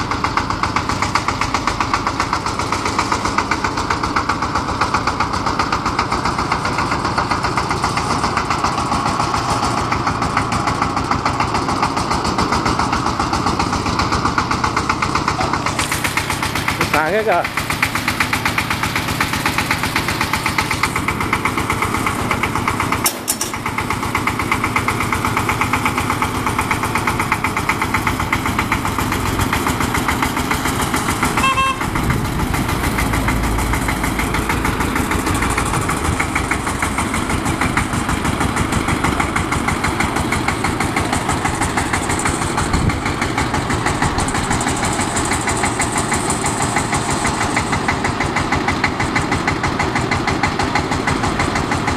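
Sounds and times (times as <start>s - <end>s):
diesel engine chugging: 0.0s - 51.9s.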